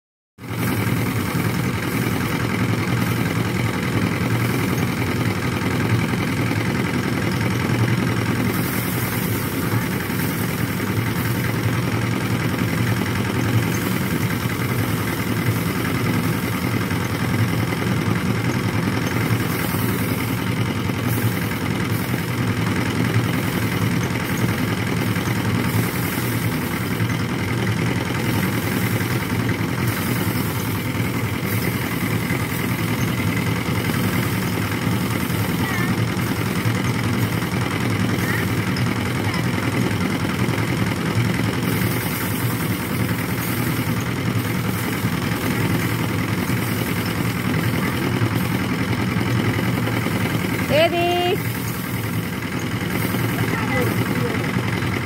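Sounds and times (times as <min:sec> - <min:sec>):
thresher drum humming: 0:00.4 - 0:55.0.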